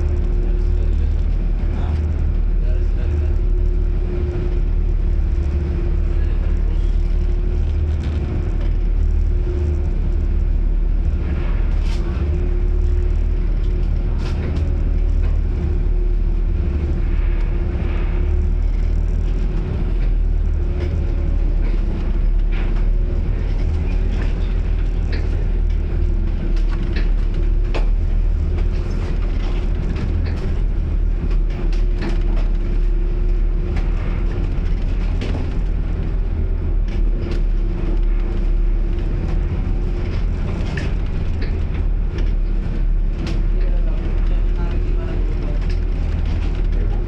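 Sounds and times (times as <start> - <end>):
knocks and rattles: 0.0 - 47.0
low hum of machinery: 0.0 - 47.0
wind rumbling on microphone: 0.0 - 47.0.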